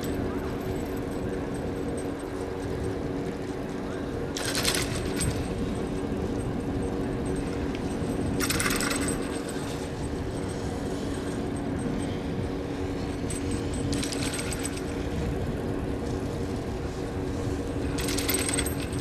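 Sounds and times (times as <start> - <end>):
faint hum: 0.0 - 19.0
low outdoor rumble: 0.0 - 19.0.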